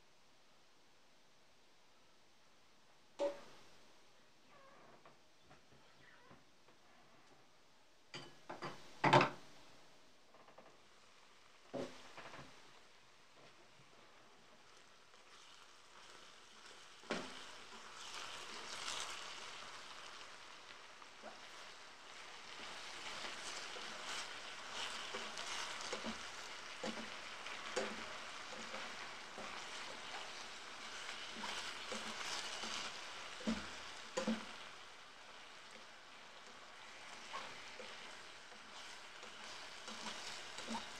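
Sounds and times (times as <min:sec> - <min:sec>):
cabbage sizzling in a pot: 0:03.1 - 0:04.2, 0:08.1 - 0:40.9.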